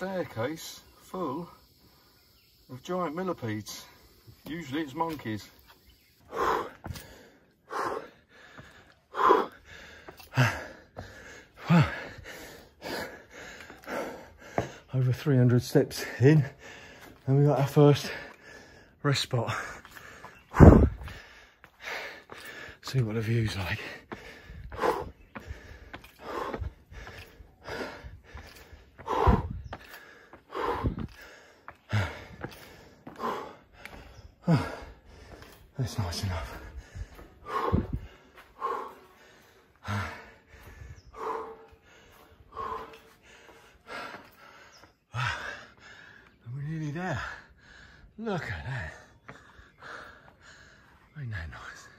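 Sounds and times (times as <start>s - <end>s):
man breathing hard: 6.2s - 14.9s, 15.9s - 23.0s, 23.6s - 46.4s, 47.0s - 51.7s.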